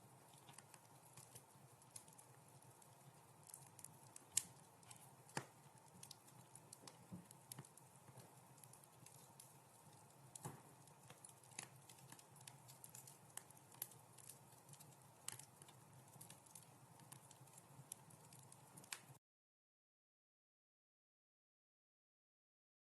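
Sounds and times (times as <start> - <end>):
low rumble of flames: 0.0 - 19.2
wood fire crackling: 0.0 - 19.2.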